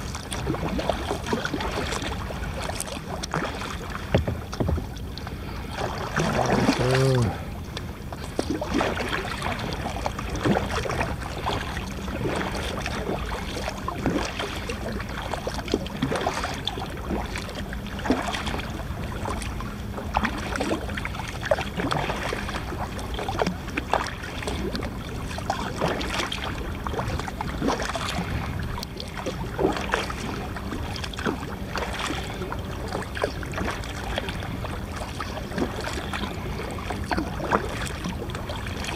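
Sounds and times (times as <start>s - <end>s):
water splashing around kayak: 0.0s - 38.9s.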